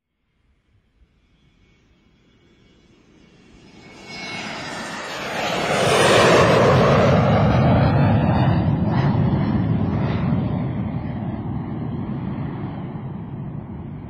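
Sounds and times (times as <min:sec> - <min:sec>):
airplane engine flying past: 0:00.3 - 0:14.0.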